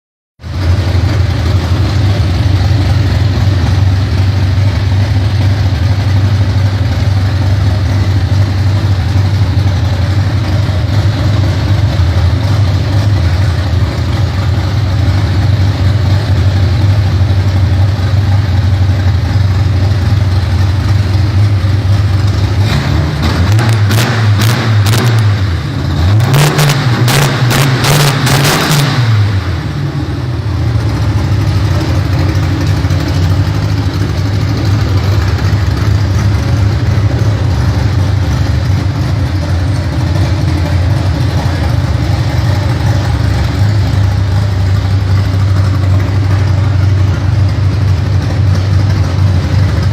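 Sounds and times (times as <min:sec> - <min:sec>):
car engine idling and revving: 0:00.4 - 0:49.9.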